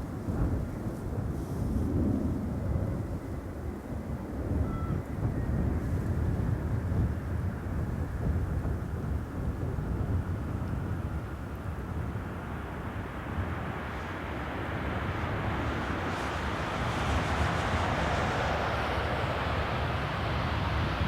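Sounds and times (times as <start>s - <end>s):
jet airliner engines: 0.0s - 21.0s.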